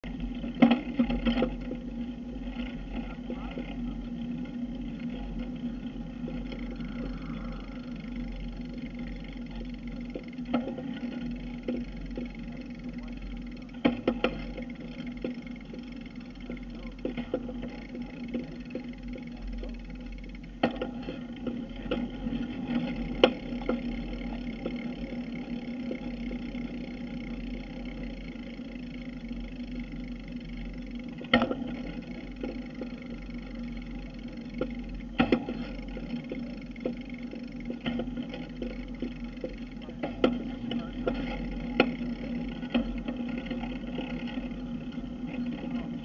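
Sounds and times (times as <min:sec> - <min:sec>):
bike knocking over bumps: 0:00.0 - 0:07.1, 0:07.8 - 0:46.0
bicycle tyres rolling on asphalt: 0:00.0 - 0:46.0.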